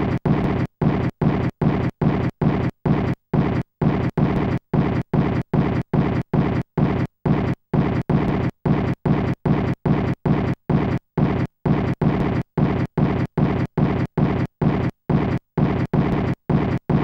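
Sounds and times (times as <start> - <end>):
pulsing rumbling noise: 0.0 - 17.0.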